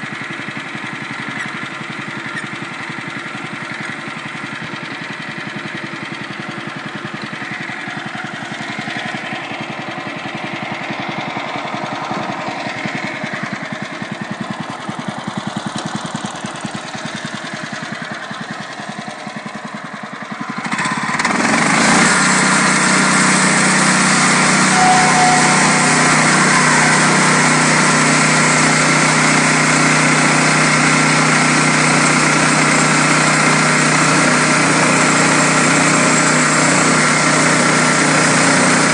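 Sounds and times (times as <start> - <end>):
sawmill gasoline engine running: 0.0 - 38.9.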